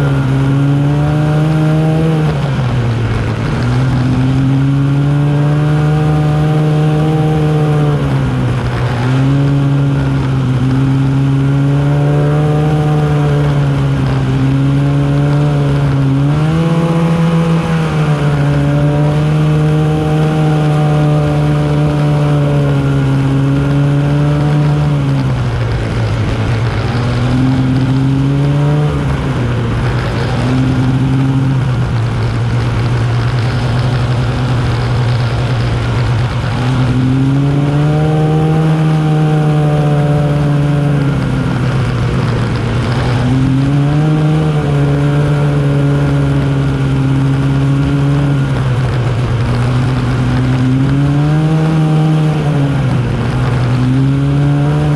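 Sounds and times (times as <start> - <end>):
snowmobile engine revving: 0.0 - 54.9
steady rushing noise: 0.0 - 54.9.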